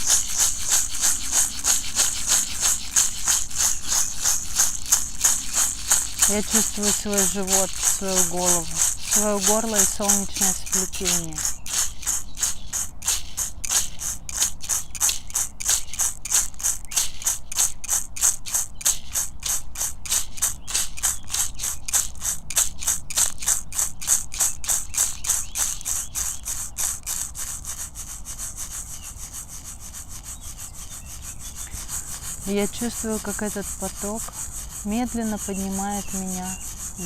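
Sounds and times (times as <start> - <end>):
hand rattle shaking: 0.0 - 37.0.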